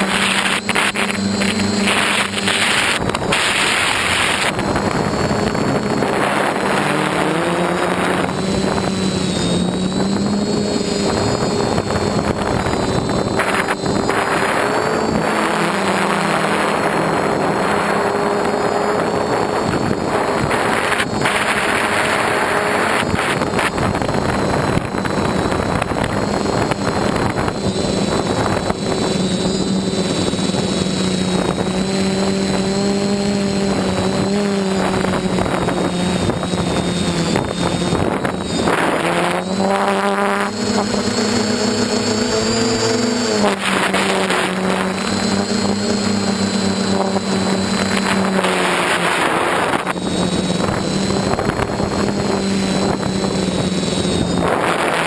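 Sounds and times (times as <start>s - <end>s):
quadcopter propellers buzzing: 0.0s - 55.0s
rushing wind noise: 0.0s - 55.0s.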